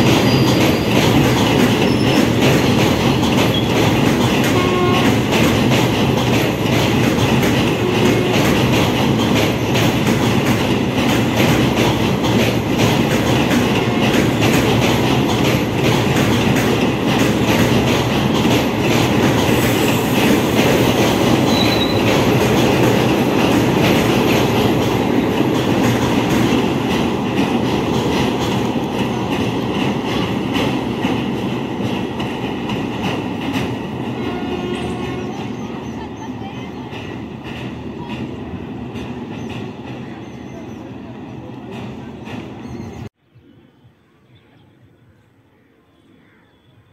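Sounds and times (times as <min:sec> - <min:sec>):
wheels clacking over rail joints: 0:00.0 - 0:40.8
train rolling over bridge: 0:00.0 - 0:43.2.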